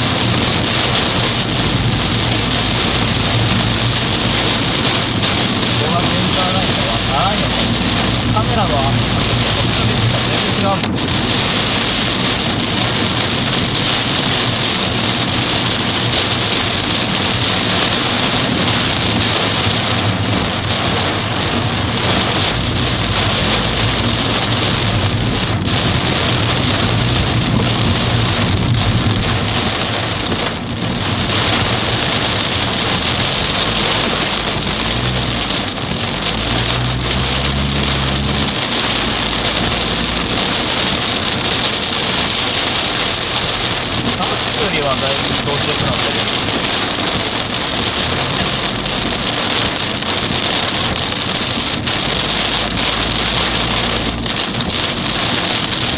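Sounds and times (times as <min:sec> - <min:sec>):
car engine and road hum: 0:00.0 - 0:55.9
heavy rain pounding on a car: 0:00.0 - 0:55.9.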